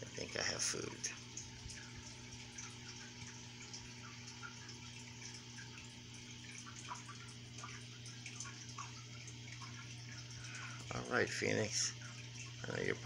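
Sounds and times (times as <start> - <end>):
aquarium water trickling and dripping: 0.0 - 13.0
steady low hum: 0.0 - 13.0.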